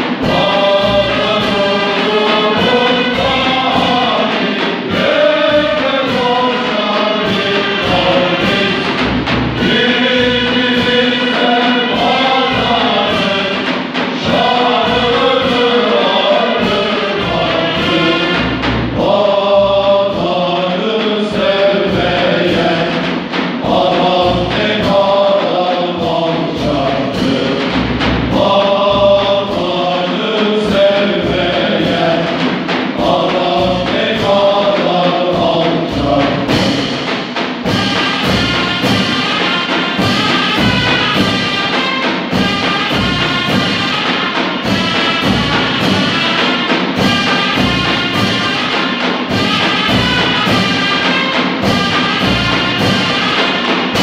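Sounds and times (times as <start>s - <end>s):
big drums beating: 0.0s - 54.0s
cymbals: 0.0s - 54.0s
men's chorus singing in unison: 0.0s - 54.0s.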